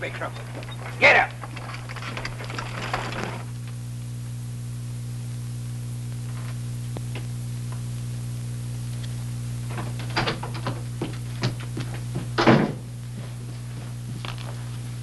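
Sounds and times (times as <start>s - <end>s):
film soundtrack hum and hiss: 0.0s - 15.0s.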